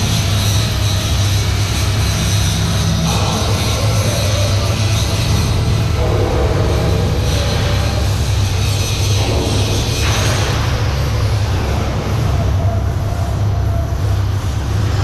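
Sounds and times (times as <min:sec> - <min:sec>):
engine-room machinery droning: 0:00.0 - 0:15.0.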